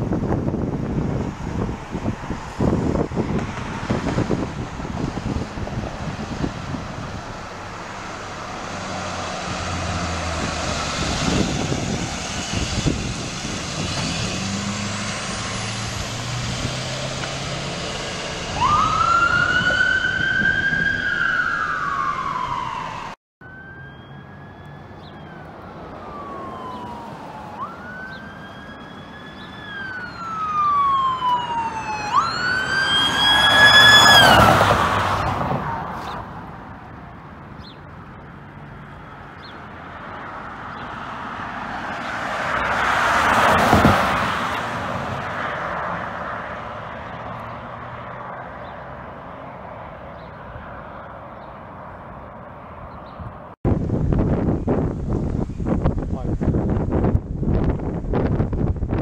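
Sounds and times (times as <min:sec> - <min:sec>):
road and engine noise: 0:00.0 - 0:59.0
emergency siren wailing: 0:00.5 - 0:37.3, 0:38.6 - 0:52.8.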